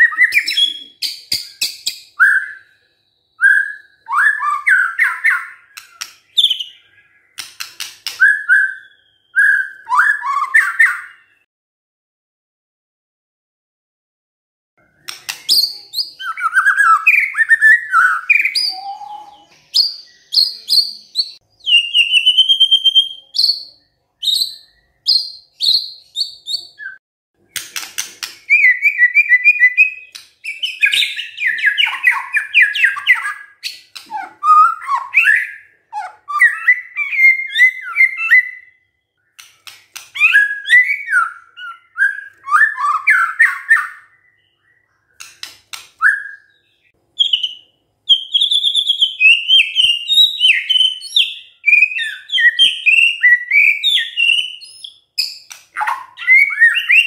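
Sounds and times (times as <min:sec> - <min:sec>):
bird singing varied whistles and trills: 0:00.0 - 0:11.4, 0:14.8 - 0:57.0.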